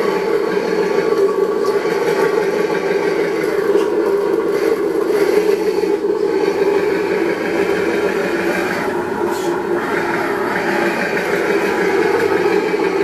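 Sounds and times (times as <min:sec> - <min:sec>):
buzzy simulated engine sound: 0:00.0 - 0:13.0.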